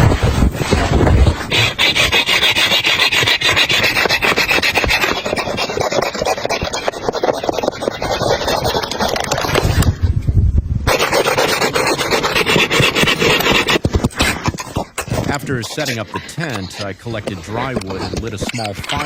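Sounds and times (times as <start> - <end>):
rough scraping: 0.0 - 10.0, 10.9 - 19.0.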